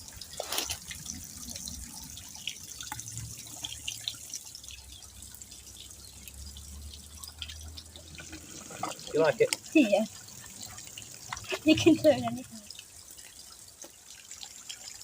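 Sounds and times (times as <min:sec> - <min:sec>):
small waterfall trickling: 0:00.0 - 0:15.0.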